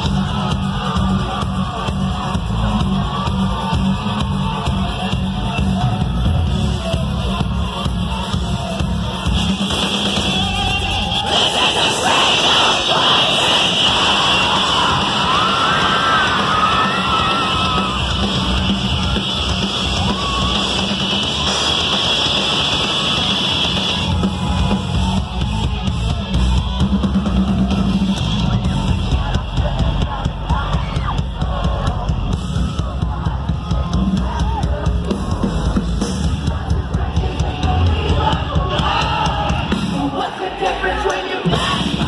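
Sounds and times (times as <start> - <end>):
live rock band playing: 0.0 - 12.7, 13.4 - 42.0
drum kit: 0.0 - 42.0.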